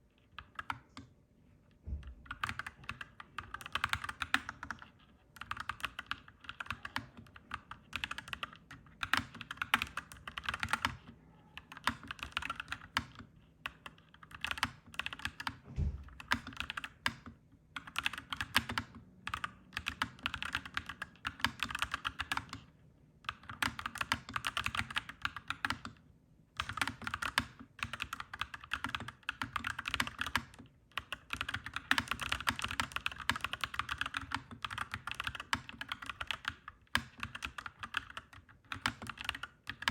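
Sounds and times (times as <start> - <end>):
mechanical keyboard typing: 0.4 - 1.1, 2.2 - 26.0, 26.6 - 39.9.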